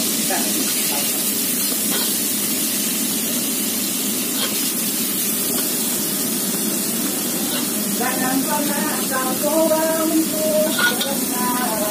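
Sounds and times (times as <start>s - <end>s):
oil sizzling in a wok: 0.0s - 11.9s.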